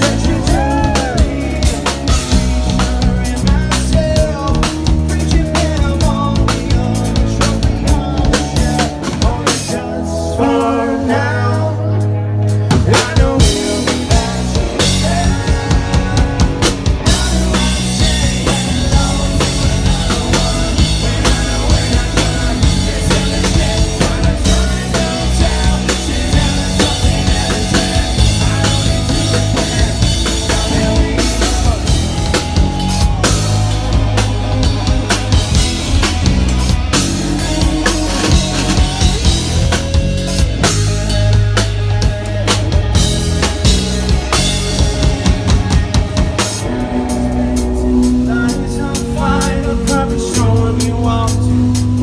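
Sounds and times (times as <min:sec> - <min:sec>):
drum kit beat: 0:00.0 - 0:09.9, 0:12.6 - 0:52.0
live rock band: 0:00.0 - 0:52.0.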